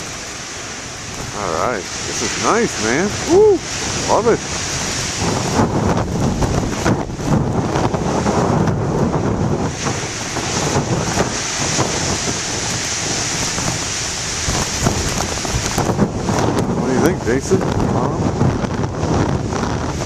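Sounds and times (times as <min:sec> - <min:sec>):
surf breaking over rocks: 0:00.0 - 0:20.0
wind buffeting microphone: 0:00.0 - 0:20.0.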